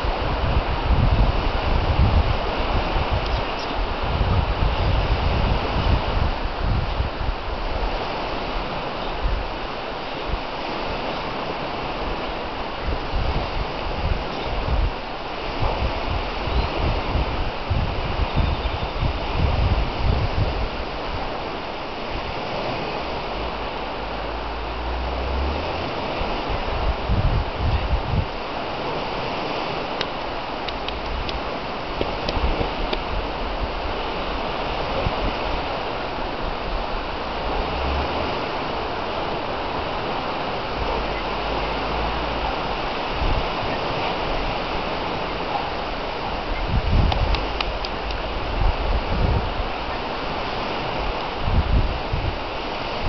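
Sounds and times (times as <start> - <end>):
small waves breaking on shore: 0.0 - 53.0
steady hiss of wind: 0.0 - 53.0
wind buffeting microphone: 0.0 - 53.0.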